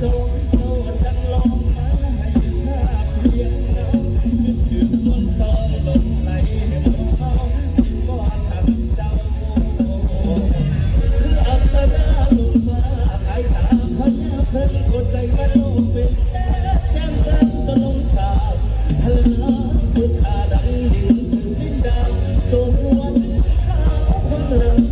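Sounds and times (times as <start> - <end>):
drum kit beat: 0.0 - 24.9
heavy bass: 0.0 - 24.9
running melody line: 0.0 - 24.9.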